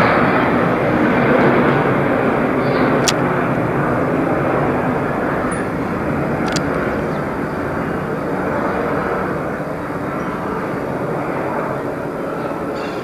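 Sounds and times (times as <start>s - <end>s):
jet engine roar overhead: 0.0s - 13.0s.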